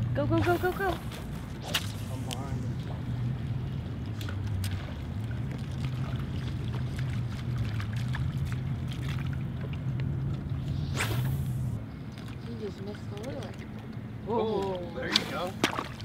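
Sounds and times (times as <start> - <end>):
steady low rumble: 0.0 - 14.3
water lapping against boat hull: 0.4 - 10.8, 11.4 - 16.0.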